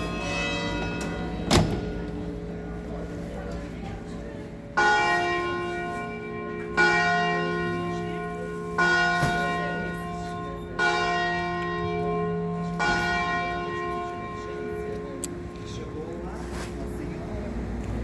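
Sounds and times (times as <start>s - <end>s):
church bell tolling: 0.0s - 16.2s.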